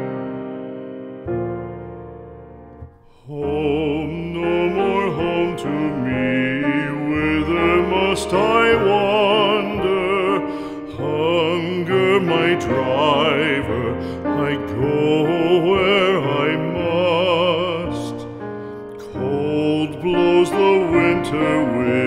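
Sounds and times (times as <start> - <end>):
piano accompaniment: 0.0 - 22.0
piano chord: 0.0 - 22.0
person singing with vibrato: 3.0 - 22.0.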